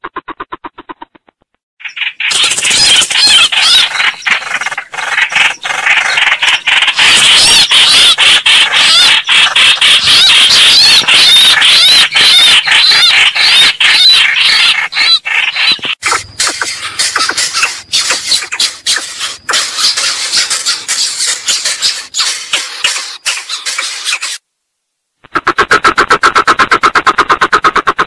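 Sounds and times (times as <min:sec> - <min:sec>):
bird calls squealing chatter: 0:01.8 - 0:24.4.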